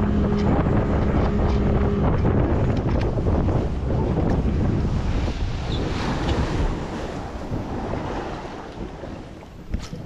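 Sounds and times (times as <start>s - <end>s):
water rushing along hull: 0.0s - 10.0s
wind buffeting microphone: 0.0s - 10.0s.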